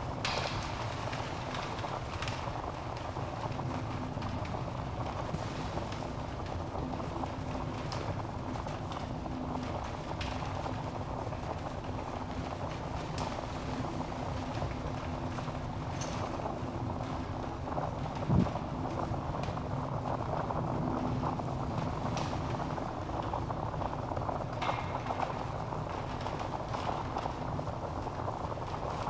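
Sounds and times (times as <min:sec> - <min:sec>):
fire crackles and pops: 0:00.0 - 0:29.0
low rush of flames: 0:00.0 - 0:29.0.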